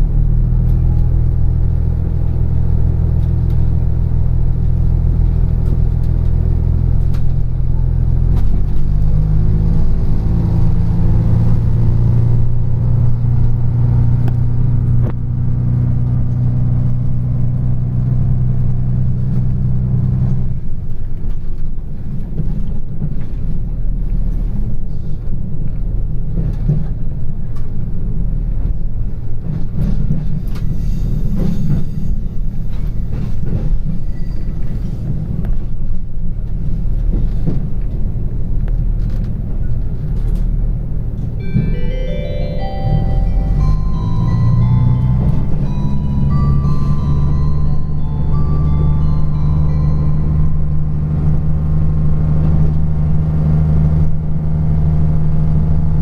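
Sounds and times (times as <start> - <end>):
diesel engine drone: 0.0 - 30.2, 35.1 - 56.0
low rumble of running train: 0.0 - 56.0.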